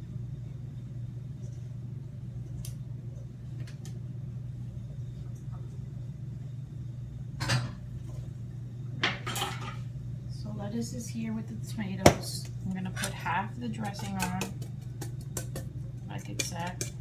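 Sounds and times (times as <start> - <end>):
kitchen appliance humming: 0.0 - 17.0.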